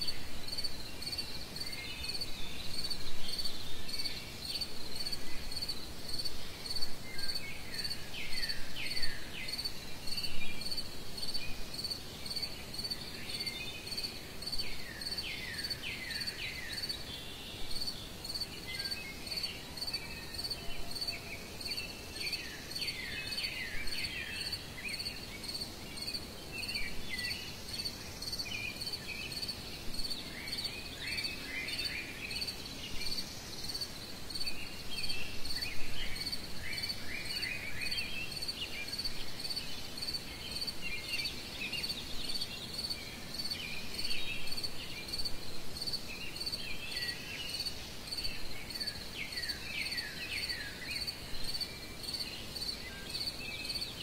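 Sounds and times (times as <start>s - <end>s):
cricket chirping: 0.0s - 17.0s, 17.6s - 53.9s.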